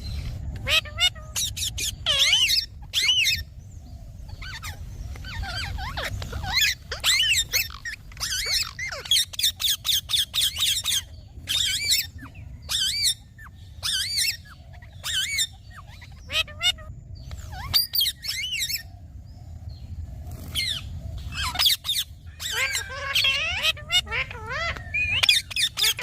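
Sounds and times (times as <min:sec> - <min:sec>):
faint low rumble: 0:00.0 - 0:26.0
parakeet shrill wavering calls: 0:00.6 - 0:03.6, 0:04.3 - 0:18.9, 0:20.5 - 0:26.0.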